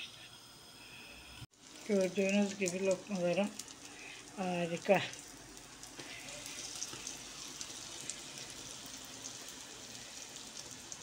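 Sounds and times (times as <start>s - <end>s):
dough sizzling in hot oil: 1.4s - 11.0s.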